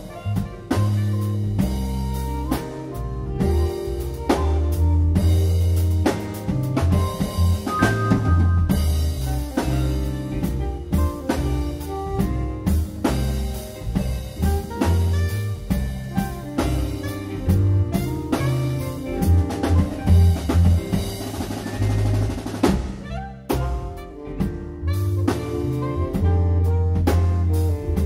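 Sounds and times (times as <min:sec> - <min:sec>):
keyboard chords: 0:00.0 - 0:22.4, 0:23.1 - 0:28.0
bass line: 0:00.0 - 0:28.0
drum kit beat: 0:00.0 - 0:28.0.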